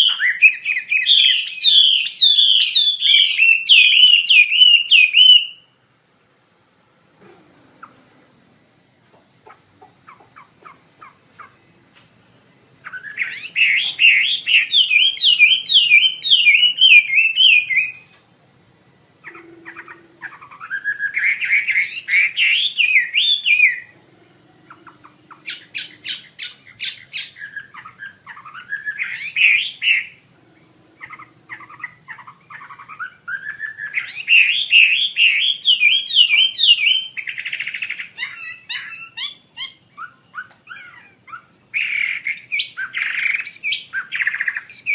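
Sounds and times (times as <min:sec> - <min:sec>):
bird singing whistled notes: 0:00.0 - 0:05.8, 0:12.8 - 0:18.1, 0:19.2 - 0:24.0, 0:24.6 - 0:44.9.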